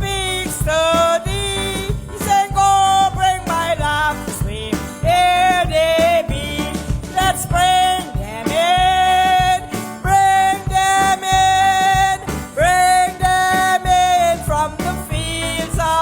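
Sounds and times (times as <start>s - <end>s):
country instrumental backing: 0.0s - 16.0s.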